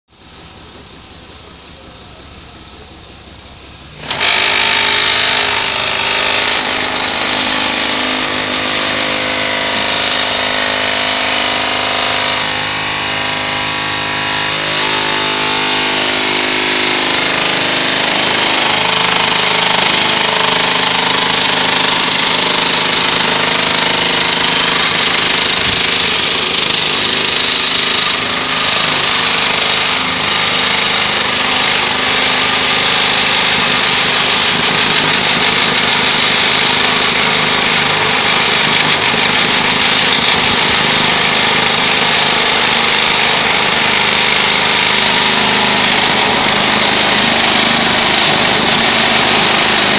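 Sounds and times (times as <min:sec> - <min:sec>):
vibrating table hum and rattle: 0:03.8 - 0:49.9.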